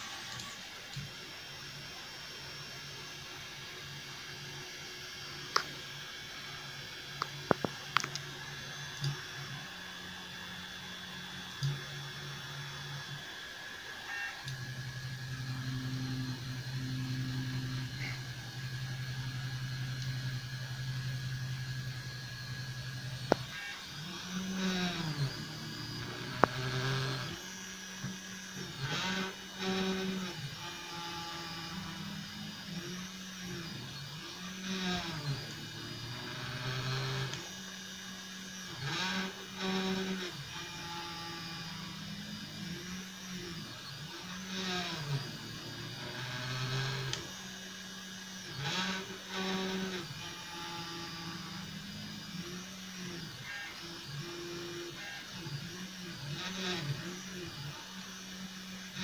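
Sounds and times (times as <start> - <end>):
printer stepper motors whining: 0.0 - 59.0.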